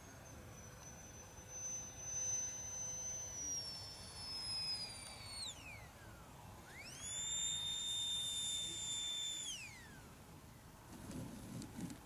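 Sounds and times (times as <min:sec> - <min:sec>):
model jet fan whining: 0:00.0 - 0:12.0.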